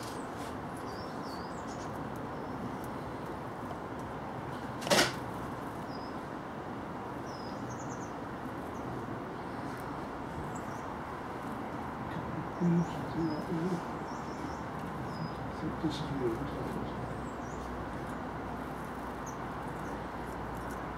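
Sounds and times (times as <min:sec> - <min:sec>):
small birds chirping: 0:00.0 - 0:20.9
steady background noise: 0:00.0 - 0:20.9.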